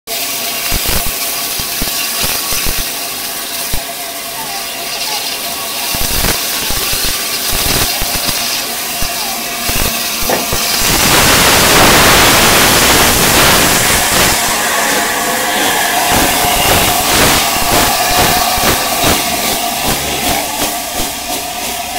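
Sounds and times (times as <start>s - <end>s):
loud hiss of steam: 0.1s - 21.9s
steam locomotive exhaust beats: 0.1s - 21.9s.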